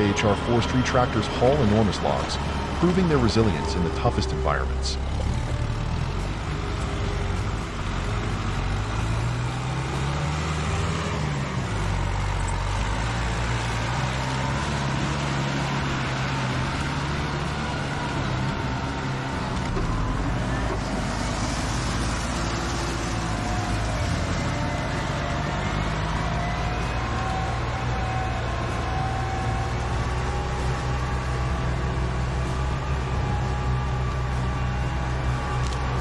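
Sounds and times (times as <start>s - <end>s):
tractor diesel engine under load: 0.0s - 36.0s.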